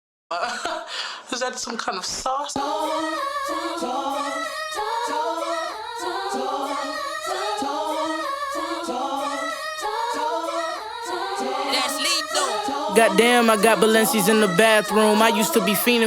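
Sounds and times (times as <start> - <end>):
a cappella group singing: 2.6 - 16.0.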